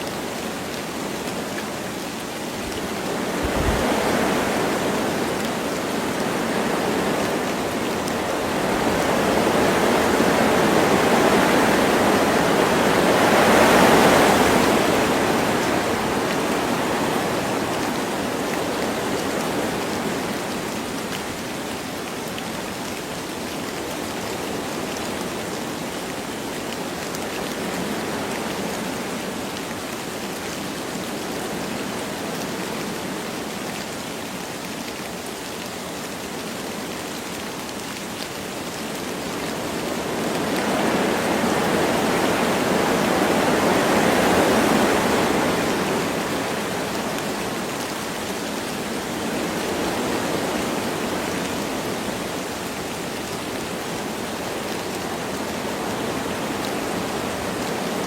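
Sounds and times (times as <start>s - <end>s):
light rain: 0.0s - 58.0s
wind through trees: 0.0s - 58.0s.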